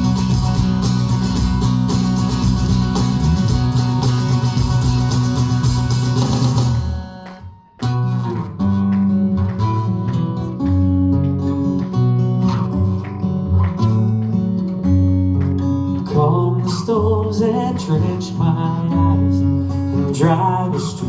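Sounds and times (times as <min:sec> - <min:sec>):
guitar strumming and plucking: 0:00.0 - 0:21.0.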